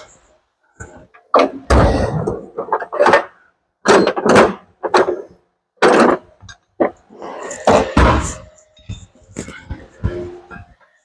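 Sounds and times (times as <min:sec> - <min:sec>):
metal clanks and scrapes: 0:02.0 - 0:11.0.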